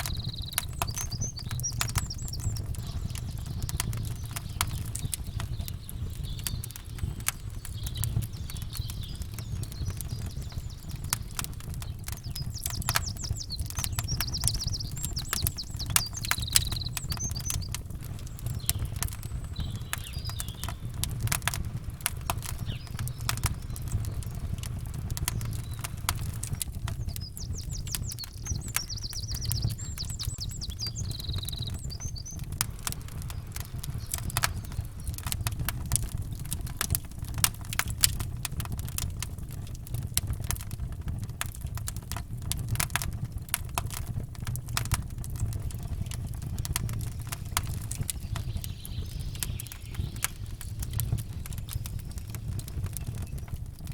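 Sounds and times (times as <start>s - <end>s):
campfire crackling and popping: 0.0s - 53.9s
songbirds chirping: 0.0s - 53.9s.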